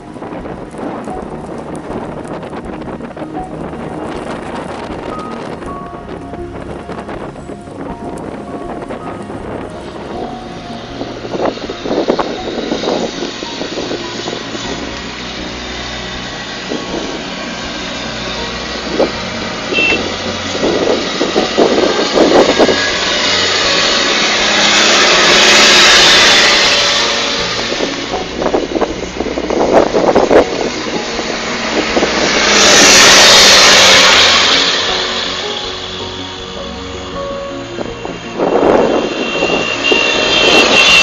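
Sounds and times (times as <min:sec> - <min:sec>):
draisine engine running: 0:00.0 - 0:41.0
rushing noise: 0:00.0 - 0:41.0.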